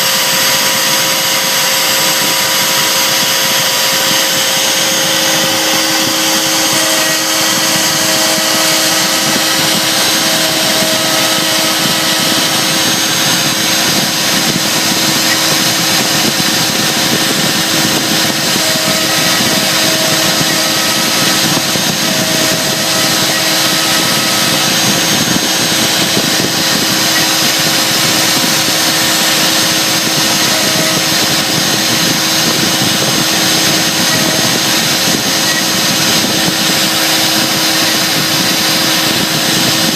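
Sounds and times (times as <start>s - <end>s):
high cutting whine: 0.0s - 39.9s
router spindle running: 0.0s - 39.9s.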